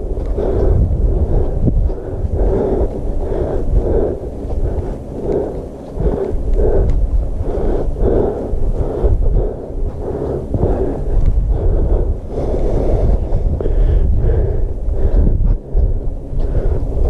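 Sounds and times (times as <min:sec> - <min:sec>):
heavy rhythmic breathing: 0:00.0 - 0:17.0
low rumble: 0:00.0 - 0:17.0.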